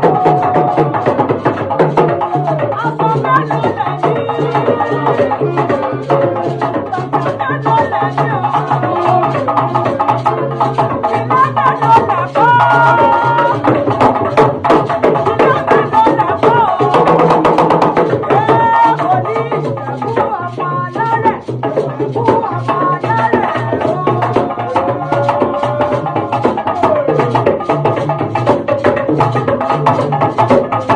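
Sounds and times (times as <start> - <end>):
drums and percussion: 0.0 - 30.9.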